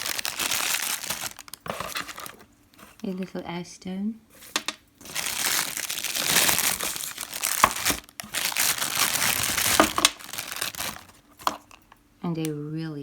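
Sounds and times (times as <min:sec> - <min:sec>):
packaging crinkling: 0:00.0 - 0:03.2, 0:04.4 - 0:12.0.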